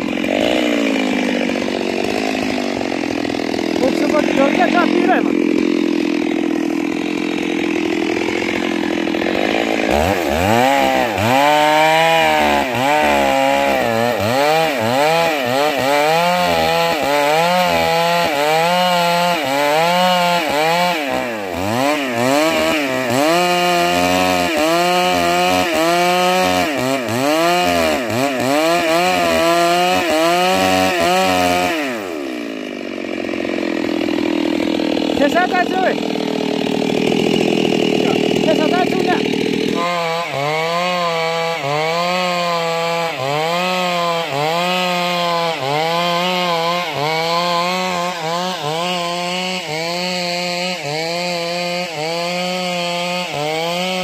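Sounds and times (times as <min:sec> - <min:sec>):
chainsaw sawing into tree trunk: 0:00.0 - 0:54.0.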